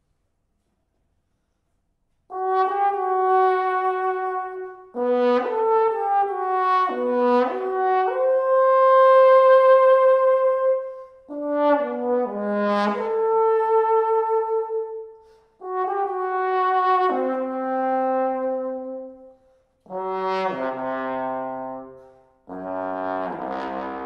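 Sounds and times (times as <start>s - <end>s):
brass chamber ensemble chords: 2.3s - 24.0s.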